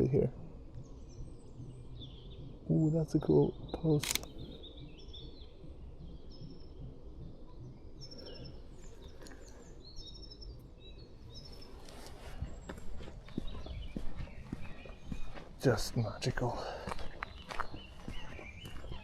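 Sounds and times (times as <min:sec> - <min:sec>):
songbirds singing and chirping: 0:00.0 - 0:19.0
steady low rumble: 0:00.0 - 0:19.0.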